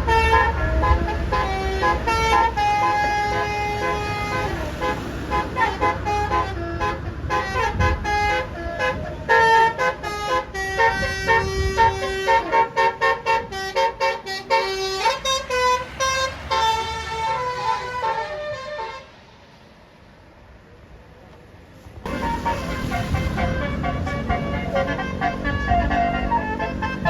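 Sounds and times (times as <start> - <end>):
multi-tone bus horn tune: 0.0 - 19.4, 22.1 - 27.0
bus engine rumble: 0.0 - 27.0.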